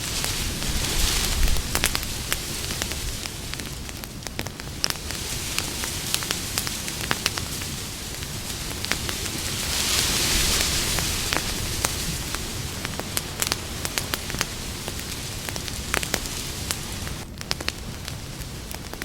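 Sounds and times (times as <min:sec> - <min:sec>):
campfire crackling and popping: 0:00.0 - 0:19.0
hiss of flame: 0:00.0 - 0:19.0.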